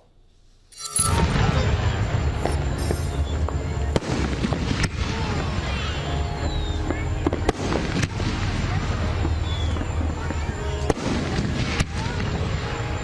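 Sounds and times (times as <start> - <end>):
fireworks booming: 1.2 - 13.0
fireworks sharp cracks: 2.4 - 13.0.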